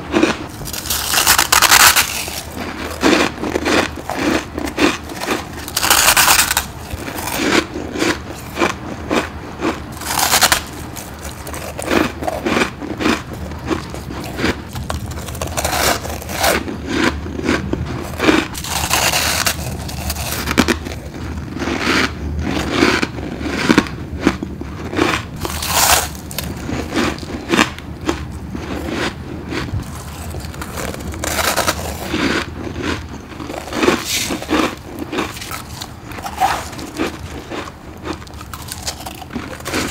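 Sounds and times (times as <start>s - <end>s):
crunchy frost being chewed: 0.0s - 39.9s.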